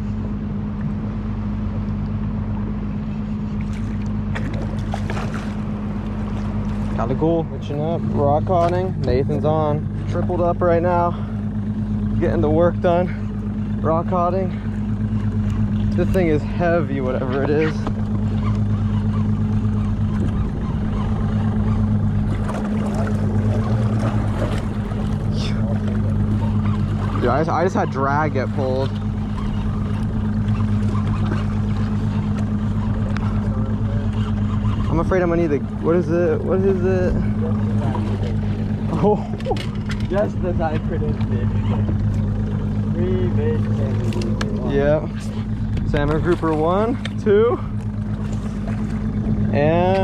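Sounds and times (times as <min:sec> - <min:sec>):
boat engine humming: 0:00.0 - 0:50.0
water noise: 0:00.0 - 0:50.0
wind: 0:00.0 - 0:50.0.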